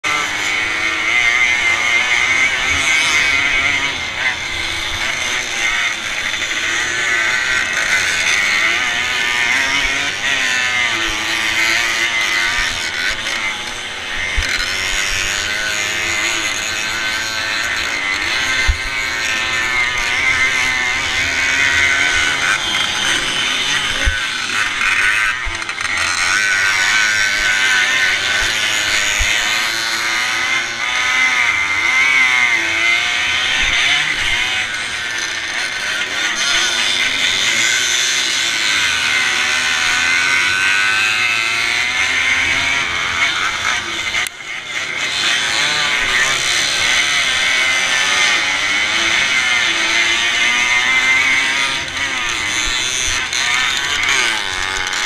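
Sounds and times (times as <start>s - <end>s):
motocross bike engine racing: 0.0s - 55.0s.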